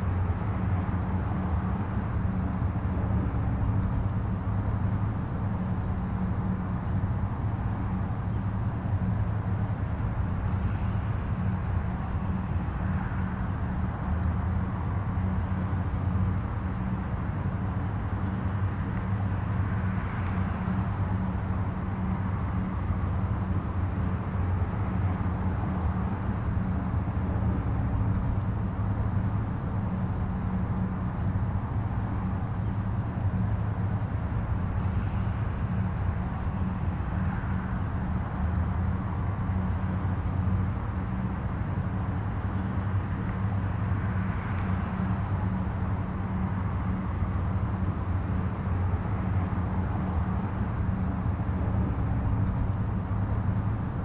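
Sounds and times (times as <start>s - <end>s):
distant highway traffic: 0.0s - 54.0s.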